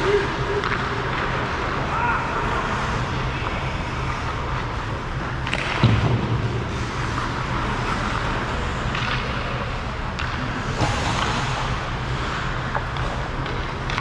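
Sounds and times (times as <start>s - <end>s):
distant skates and hockey sticks: 0.0s - 14.0s.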